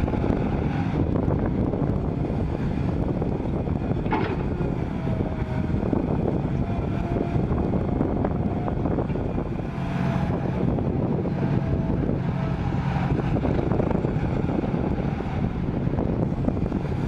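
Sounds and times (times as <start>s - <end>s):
excavator diesel engine running: 0.0s - 17.0s
wind buffeting microphone: 0.0s - 17.0s.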